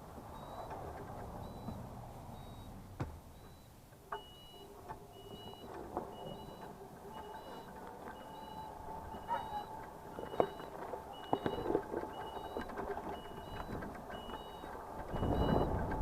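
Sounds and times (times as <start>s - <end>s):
lower reversing alarm beep: 0.3s - 0.8s, 1.4s - 16.0s
high reversing alarm beep: 1.4s - 1.8s, 2.4s - 2.7s, 3.4s - 15.8s.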